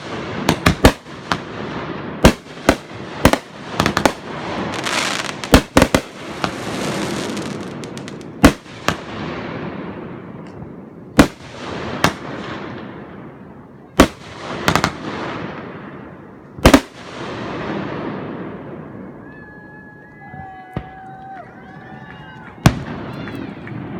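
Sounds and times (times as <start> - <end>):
fireworks bursting with rumble: 0.0 - 23.9.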